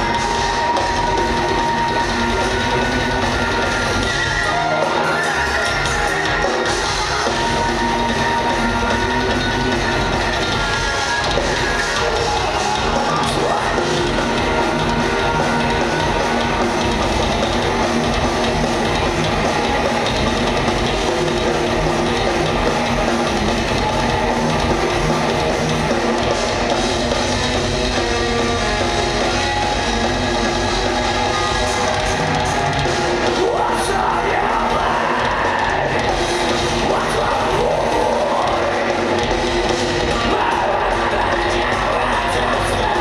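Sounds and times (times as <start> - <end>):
distorted electric guitars: 0.0 - 43.0
drum kit: 0.0 - 43.0.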